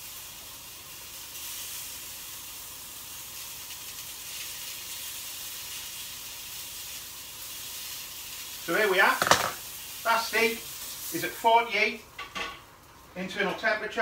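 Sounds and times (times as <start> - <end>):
steak sizzling in a pan: 0.0 - 13.6.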